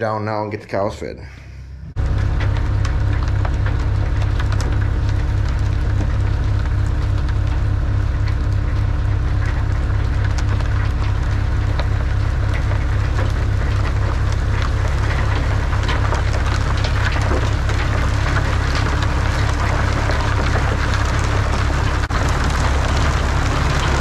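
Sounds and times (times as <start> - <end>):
machine hum: 0.0 - 24.0
silage crackling and pattering: 2.0 - 24.0.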